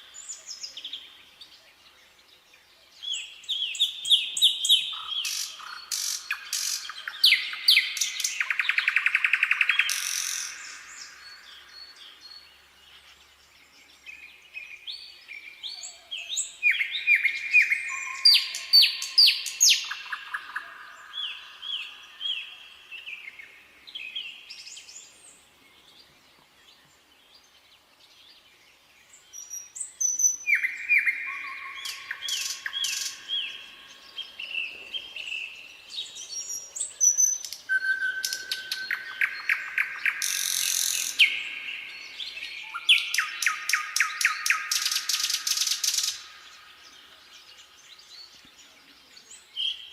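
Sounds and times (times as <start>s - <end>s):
nightingale singing: 0.0s - 49.9s.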